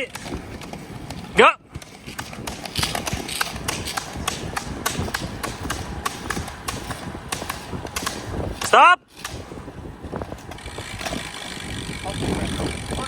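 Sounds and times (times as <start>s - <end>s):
ski pole tips striking asphalt: 0.0s - 11.5s
roller ski wheels rolling: 0.0s - 13.0s.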